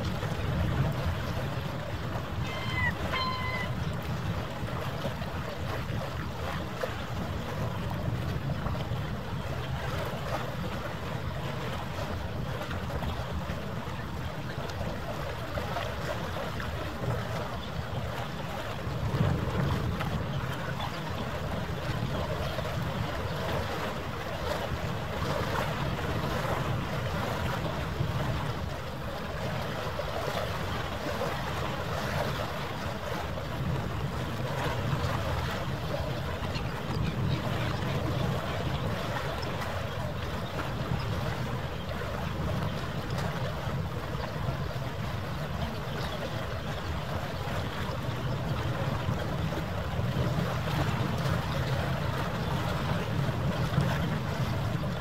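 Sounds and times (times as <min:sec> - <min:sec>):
harbour ambience rumble: 0:00.0 - 0:55.0
wind and water rushing: 0:00.0 - 0:55.0.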